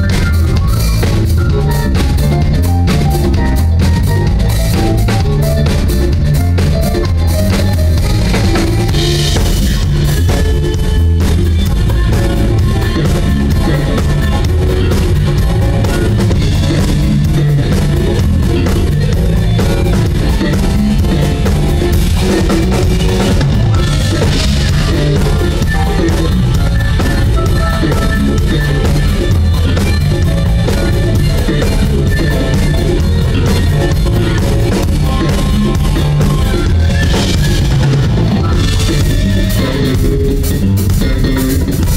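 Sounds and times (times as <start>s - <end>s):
drum kit: 0.0s - 41.9s
live rock band playing: 0.0s - 41.9s.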